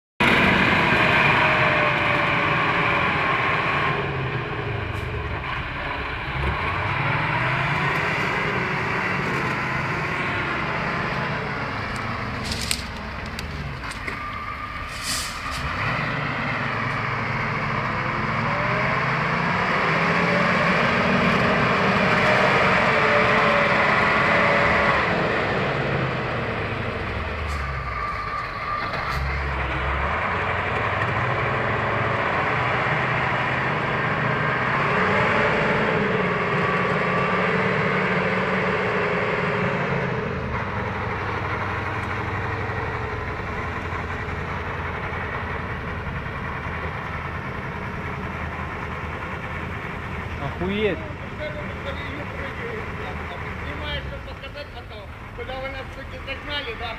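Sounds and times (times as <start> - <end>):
truck diesel engine under load: 0.2 - 56.9.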